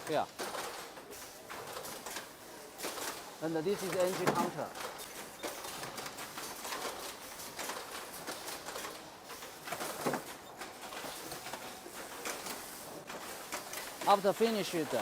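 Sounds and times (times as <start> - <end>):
factory hum of activity: 0.0 - 15.0.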